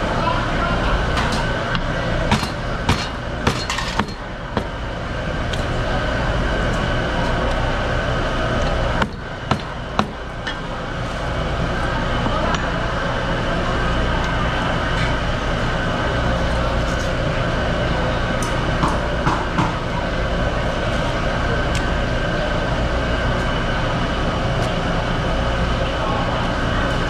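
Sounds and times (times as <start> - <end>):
machine hum with whine: 0.0 - 27.0.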